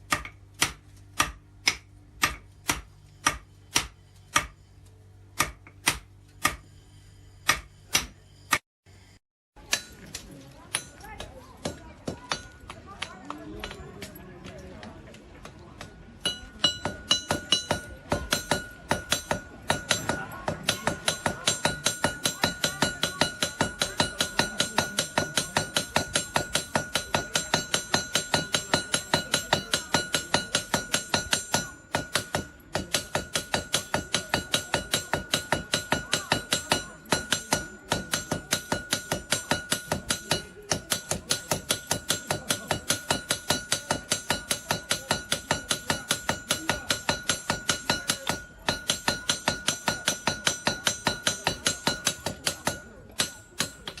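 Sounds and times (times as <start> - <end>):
hammer striking anvil: 0.1 - 4.7, 5.4 - 6.8, 7.4 - 8.6, 9.6 - 14.2, 15.8 - 54.0.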